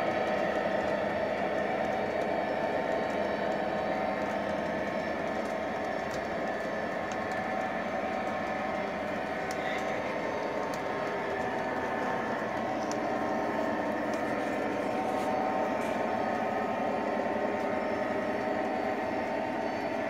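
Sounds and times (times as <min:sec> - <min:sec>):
model train motor whine: 0:00.0 - 0:20.0
wheels rolling on track: 0:00.0 - 0:20.0.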